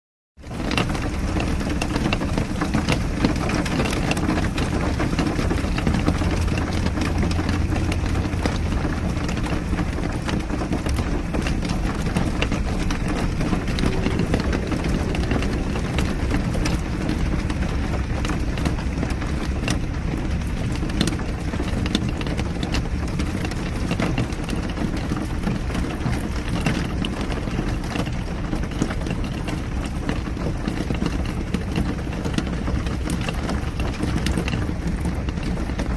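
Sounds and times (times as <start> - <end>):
car road and engine noise: 0.4 - 35.9
raindrop ticks: 0.4 - 35.9.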